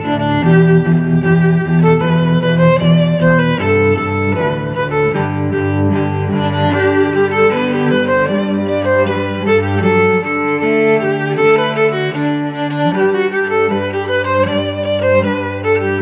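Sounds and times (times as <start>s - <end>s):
violin and cello melody: 0.0s - 16.0s.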